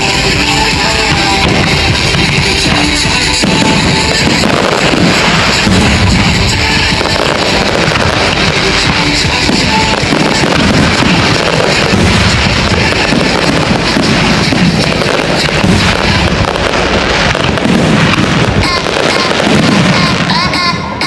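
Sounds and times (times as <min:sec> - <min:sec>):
fireworks crackling and popping: 0:00.0 - 0:21.0
loud music over sound system: 0:00.0 - 0:21.0.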